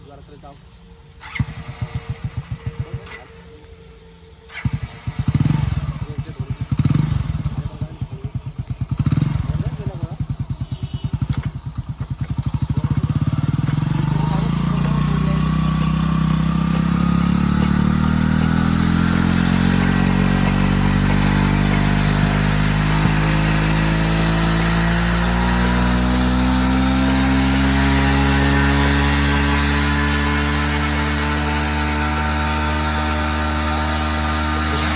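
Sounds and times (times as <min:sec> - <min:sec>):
engine chugging and speeding up: 0:04.5 - 0:34.9.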